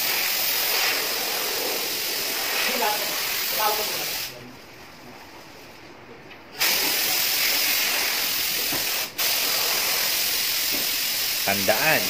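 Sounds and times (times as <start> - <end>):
compressed air hissing: 0.0 - 4.4, 6.5 - 12.0.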